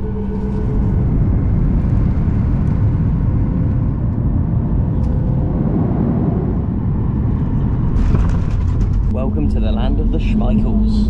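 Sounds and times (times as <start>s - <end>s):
jet engine and airflow rumble: 0.0s - 11.0s.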